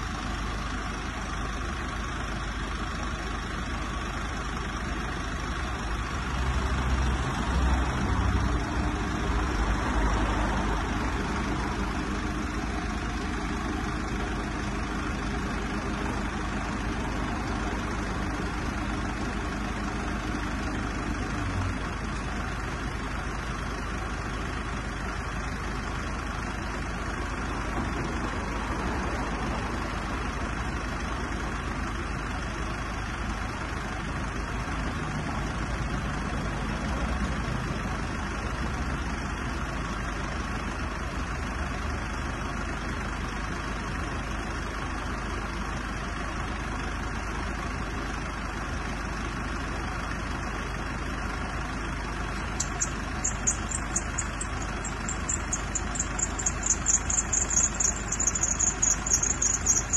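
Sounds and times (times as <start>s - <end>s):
diesel van idling: 0.0s - 59.9s.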